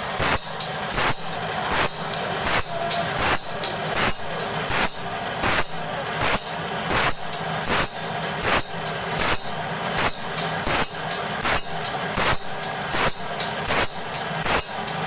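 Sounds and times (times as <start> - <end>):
grinding wheel bursts: 0.0 - 15.0
motor hum: 0.0 - 15.0.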